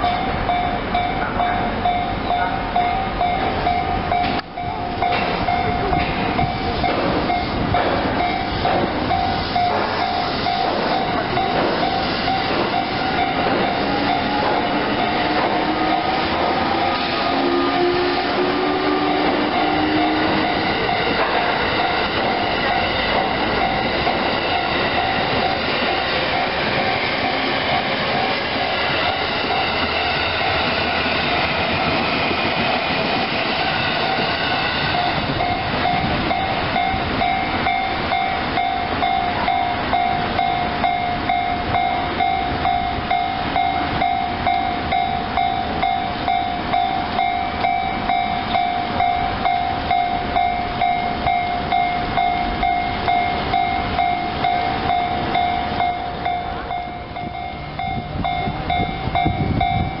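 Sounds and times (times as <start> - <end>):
electric train rushing past: 0.0 - 60.0
level crossing warning bell: 0.0 - 60.0.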